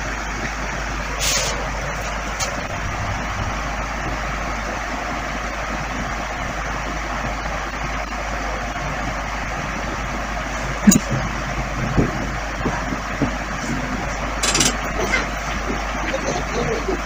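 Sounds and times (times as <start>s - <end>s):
low hum: 0.0s - 17.0s
steady rushing noise: 0.0s - 17.0s.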